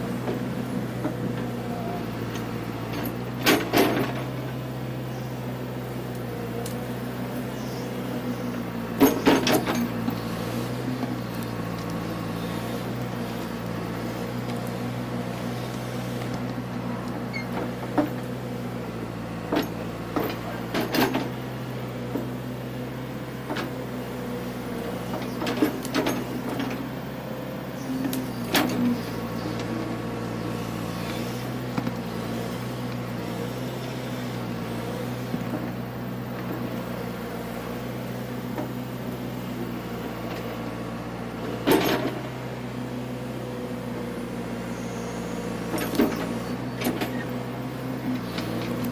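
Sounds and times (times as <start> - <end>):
loader engine running: 0.0 - 48.9.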